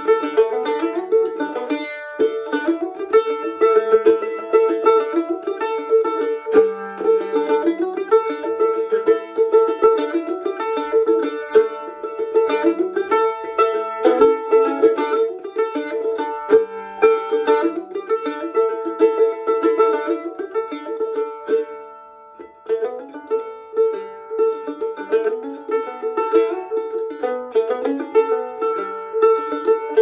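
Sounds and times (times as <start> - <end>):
plucked string instrument tune: 0.0 - 30.0.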